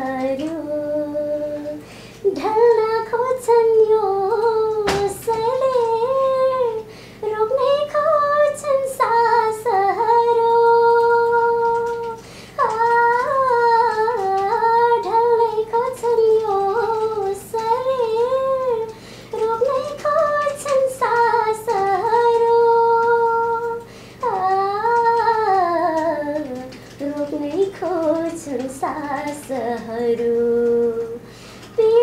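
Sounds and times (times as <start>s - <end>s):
woman singing unaccompanied: 0.0s - 32.0s.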